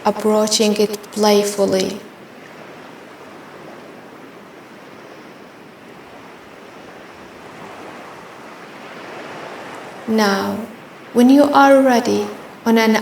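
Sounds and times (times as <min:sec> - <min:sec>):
ocean surf: 0:00.0 - 0:13.0.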